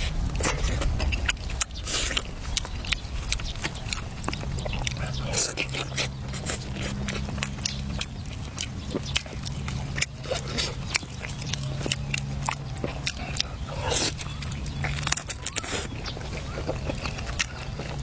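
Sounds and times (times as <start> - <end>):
person chewing food: 0.0 - 18.0
steady low hum: 0.0 - 18.0.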